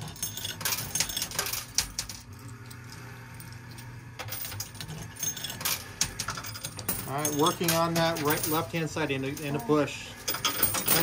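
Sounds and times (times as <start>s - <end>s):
coins clinking and dropping: 0.0s - 2.4s, 3.8s - 11.0s
low steady hum: 0.0s - 11.0s.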